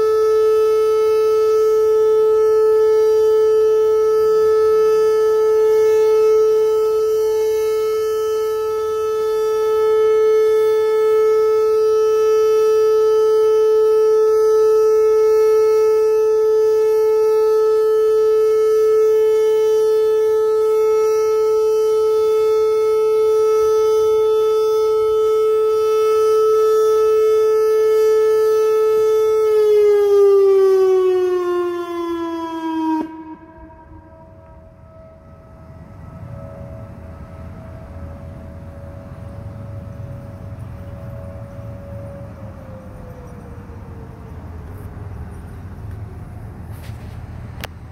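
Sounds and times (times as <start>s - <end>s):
tornado siren tone: 0.0s - 47.9s.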